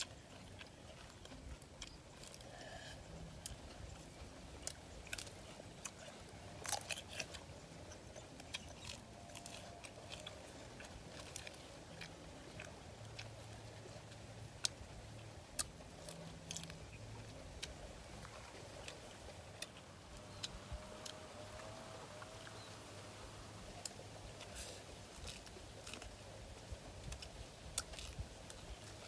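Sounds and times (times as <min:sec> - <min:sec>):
chewing and crunching food: 0:00.0 - 0:29.0.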